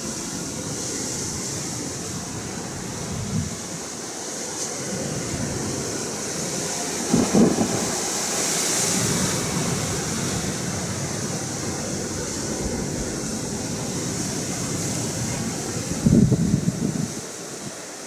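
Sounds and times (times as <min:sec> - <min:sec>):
ocean surf washing: 0:00.0 - 0:18.0
wind buffeting microphone: 0:00.1 - 0:04.1, 0:04.7 - 0:17.8.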